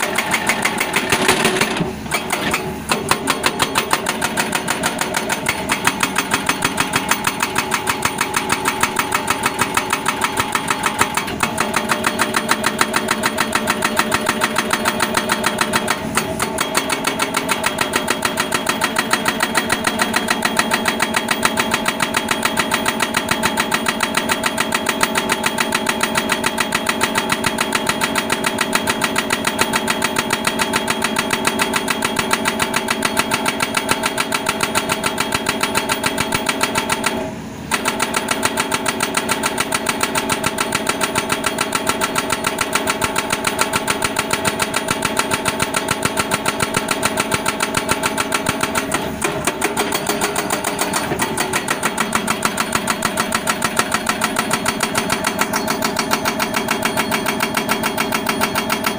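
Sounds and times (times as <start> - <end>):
excavator engine: 0.0 - 58.9
hydraulic breaker hammering ground: 0.0 - 58.9.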